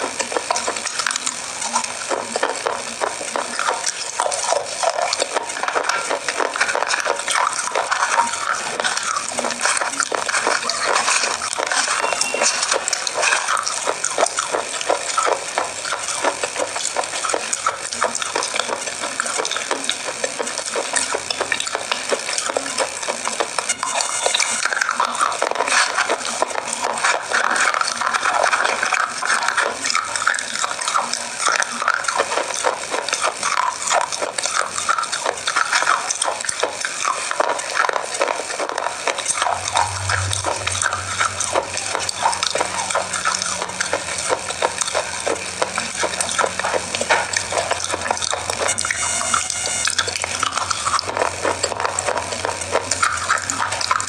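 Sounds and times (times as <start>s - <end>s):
chewing crunchy chocolate: 0.0s - 54.0s
wet mouth sounds: 0.0s - 54.0s.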